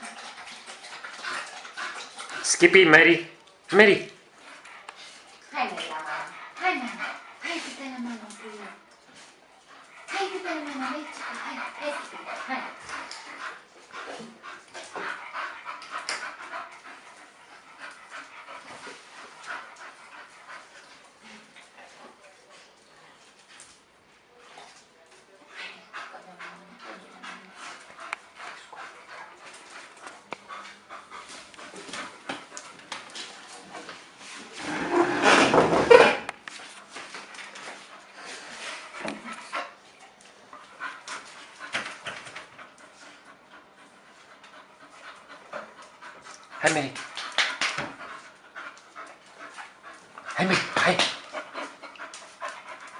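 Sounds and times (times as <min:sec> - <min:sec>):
dog panting: 0:00.0 - 0:03.2, 0:04.3 - 0:23.8, 0:25.5 - 0:35.4, 0:36.5 - 0:52.9.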